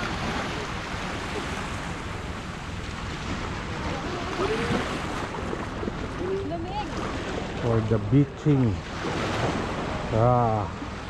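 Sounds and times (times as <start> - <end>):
small waves washing onto shore: 0.0 - 11.0.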